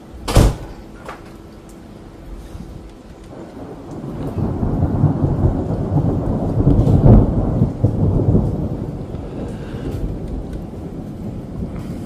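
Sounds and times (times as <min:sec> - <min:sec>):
deep thunder rumbling: 0:02.0 - 0:12.0.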